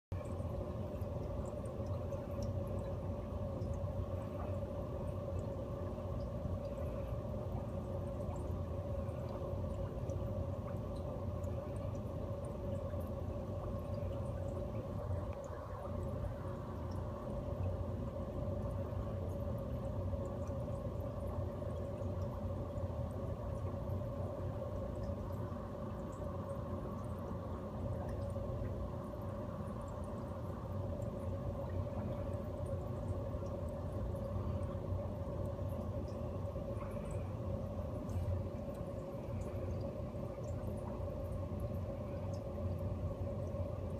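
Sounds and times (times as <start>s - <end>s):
aquarium equipment humming: 0.1s - 43.9s
water dripping and trickling: 0.1s - 43.9s.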